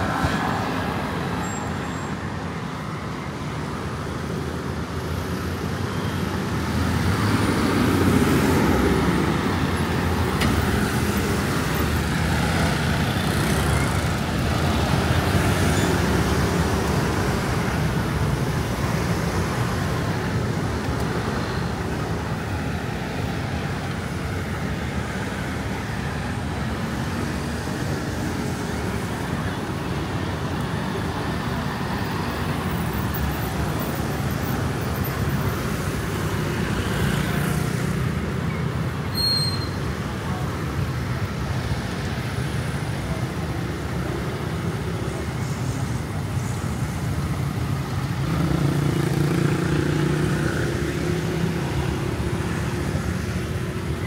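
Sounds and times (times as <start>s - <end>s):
scooters and cars driving past: 0.0s - 54.0s.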